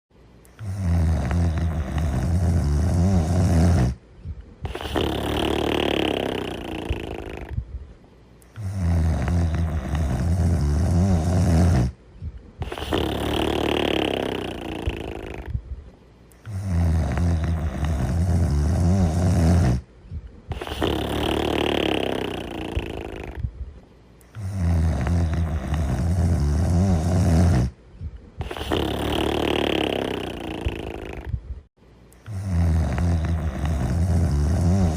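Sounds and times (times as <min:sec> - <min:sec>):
cartoon snoring: 0:00.6 - 0:04.0, 0:04.6 - 0:07.6, 0:08.5 - 0:12.0, 0:12.6 - 0:15.6, 0:16.4 - 0:19.9, 0:20.5 - 0:23.5, 0:24.3 - 0:27.8, 0:28.4 - 0:31.4, 0:32.2 - 0:34.9.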